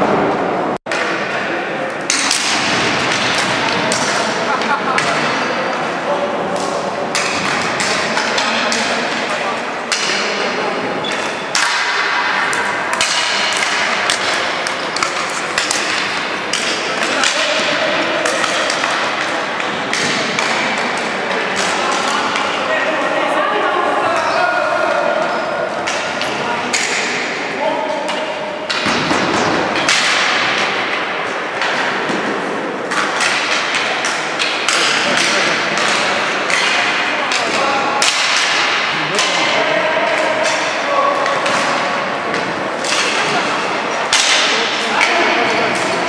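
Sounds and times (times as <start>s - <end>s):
background din in hall: 0.0s - 46.0s
background noise: 0.0s - 46.0s
hockey sticks clacking on ball: 0.9s - 23.1s, 25.2s - 46.0s.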